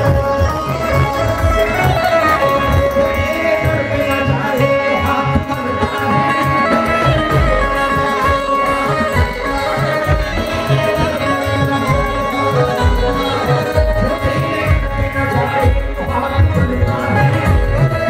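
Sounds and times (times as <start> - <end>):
harmonium sustained notes: 0.0 - 18.0.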